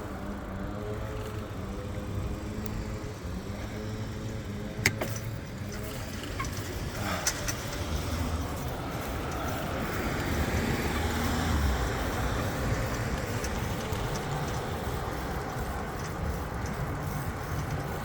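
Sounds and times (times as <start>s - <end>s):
passing car traffic: 0.0s - 18.0s.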